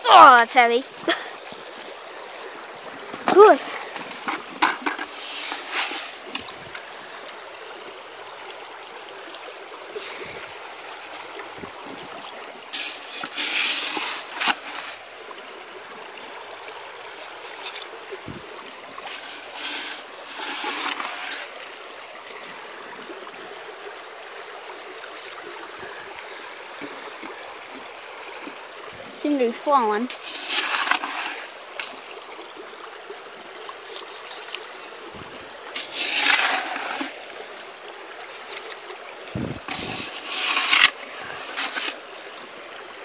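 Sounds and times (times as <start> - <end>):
stream water running: 0.0 - 43.0
water splashing: 0.0 - 43.0.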